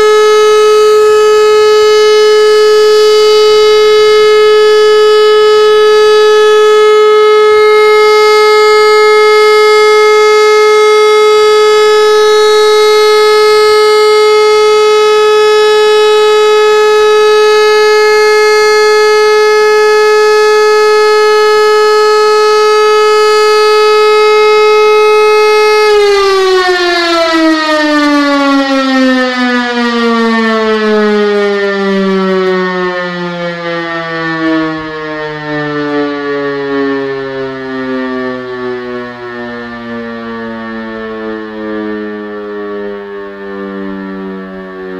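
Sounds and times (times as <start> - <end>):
civil defence siren steady tone: 0.0 - 44.9.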